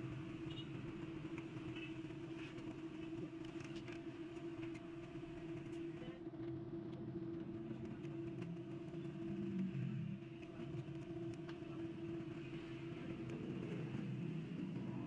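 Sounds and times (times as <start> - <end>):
low hum with held tone: 0.0 - 15.0.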